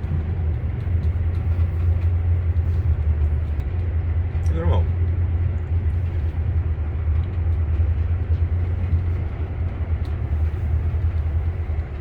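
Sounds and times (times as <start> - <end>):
train rumble inside carriage: 0.0 - 12.0.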